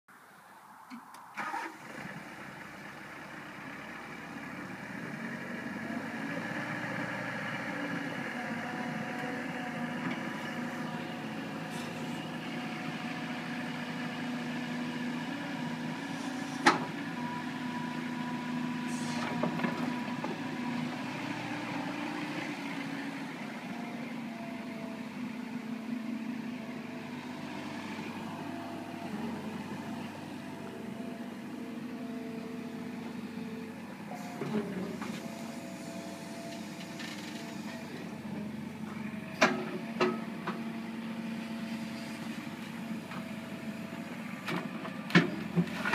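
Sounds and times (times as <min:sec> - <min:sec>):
excavator diesel engine running: 0:01.4 - 0:45.9.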